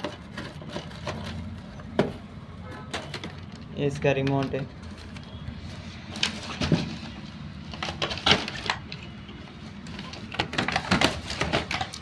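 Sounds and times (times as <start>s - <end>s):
cardboard and plastic packaging crackling: 0.0s - 12.0s.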